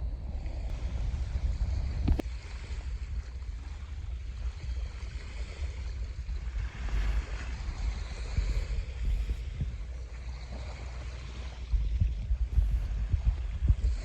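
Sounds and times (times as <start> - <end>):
surf on sandy beach: 0.0 - 14.0
wind buffeting microphone: 0.0 - 14.0.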